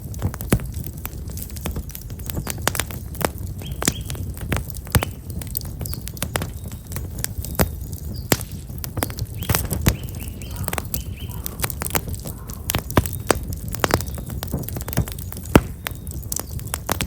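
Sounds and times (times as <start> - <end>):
wood fire crackling and popping: 0.0 - 17.0
small birds chirping: 2.0 - 17.0.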